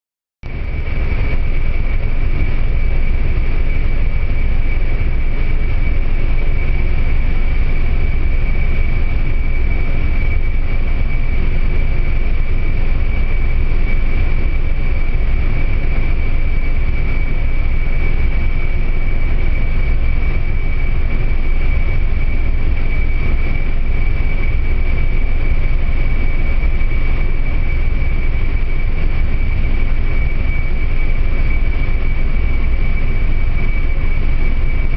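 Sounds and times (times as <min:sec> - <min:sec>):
aircraft drone: 0:00.5 - 0:34.9
high-pitched whine: 0:00.5 - 0:34.9.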